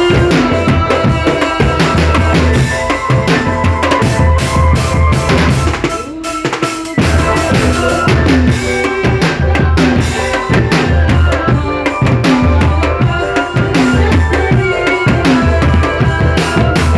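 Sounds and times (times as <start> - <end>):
marching band melody: 0.0 - 16.9
snare drums beating: 0.0 - 16.9.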